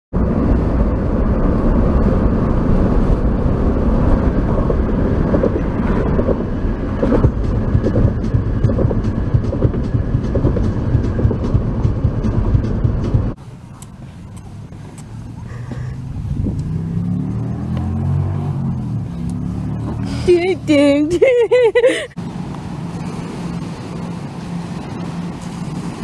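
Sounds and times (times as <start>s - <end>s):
car road and wind noise: 0.1s - 26.0s.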